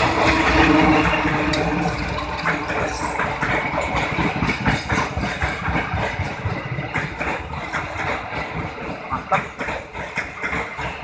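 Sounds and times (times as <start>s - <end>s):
train wheels clattering over rail joints: 0.0s - 11.0s.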